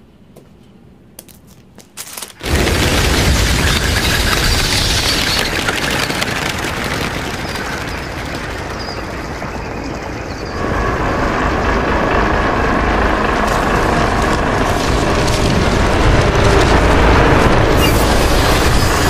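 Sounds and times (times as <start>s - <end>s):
large vehicle rumbling: 2.4s - 19.0s.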